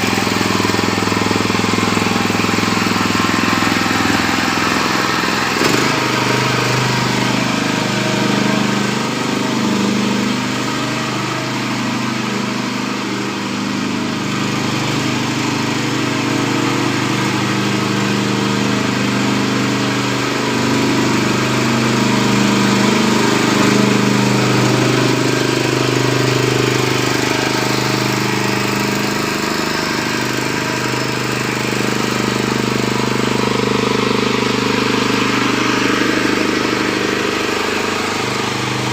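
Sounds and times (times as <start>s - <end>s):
small rotavator engine running: 0.0s - 38.9s.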